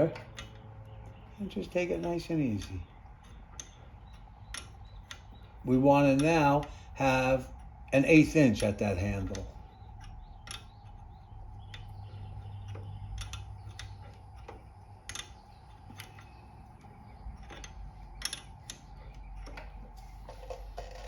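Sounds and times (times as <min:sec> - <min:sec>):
steady low hum: 0:00.0 - 0:21.0
wrenches clicking and tapping metal: 0:00.0 - 0:21.0.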